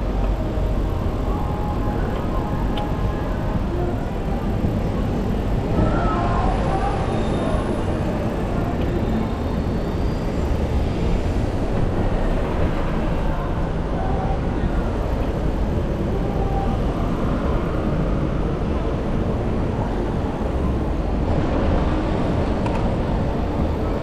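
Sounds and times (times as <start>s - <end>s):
city road traffic rumble: 0.0s - 24.0s.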